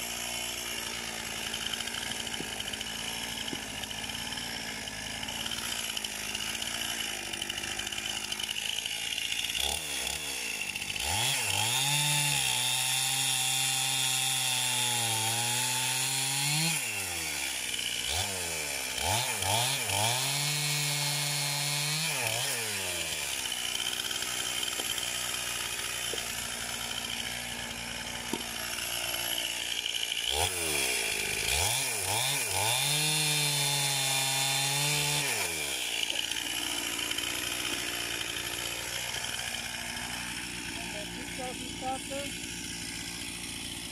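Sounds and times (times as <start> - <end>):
chainsaw cutting logs: 0.0 - 43.9.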